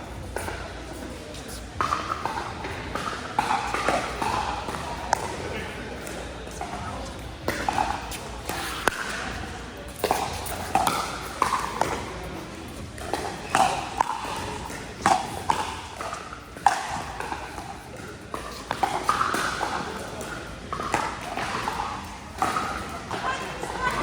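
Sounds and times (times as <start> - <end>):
paddles striking pickleball: 1.8 - 12.1, 13.0 - 24.0.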